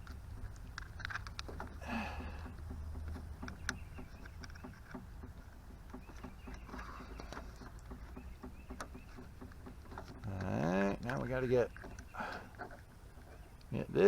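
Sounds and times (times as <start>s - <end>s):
faint clicks and handling noises: 0.0s - 13.8s.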